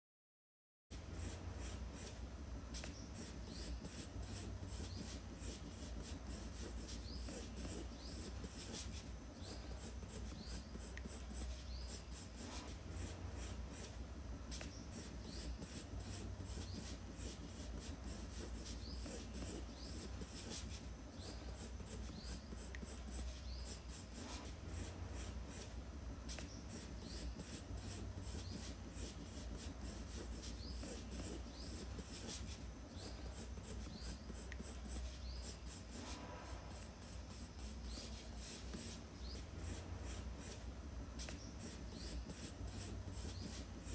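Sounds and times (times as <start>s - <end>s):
pencil scratching on paper: 2.8s - 43.9s.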